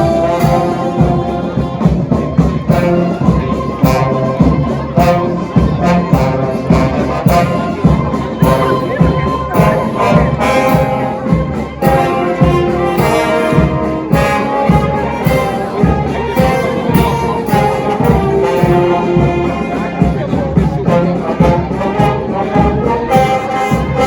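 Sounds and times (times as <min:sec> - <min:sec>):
brass band playing: 0:00.0 - 0:24.0
steady drum beat: 0:00.0 - 0:24.0.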